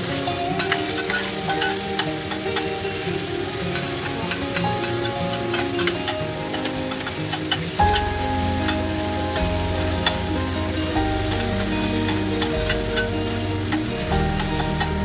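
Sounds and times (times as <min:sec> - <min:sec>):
background music: 0:00.0 - 0:15.0
chicken sizzling in a frying pan: 0:00.0 - 0:15.0.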